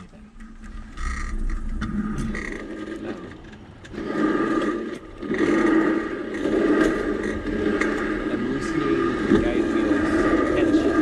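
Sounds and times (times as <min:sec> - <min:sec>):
wheels rolling on steel rails: 0:00.0 - 0:11.0.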